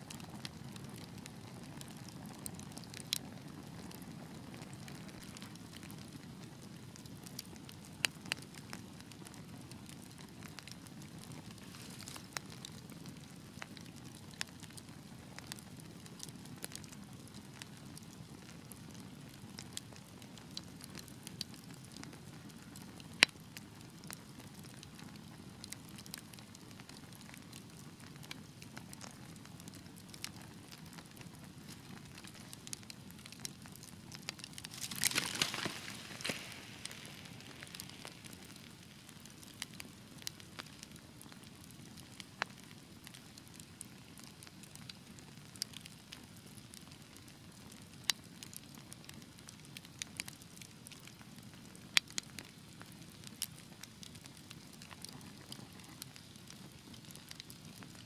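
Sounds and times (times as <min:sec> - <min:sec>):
fire crackling in fireplace: 0:00.0 - 0:58.0.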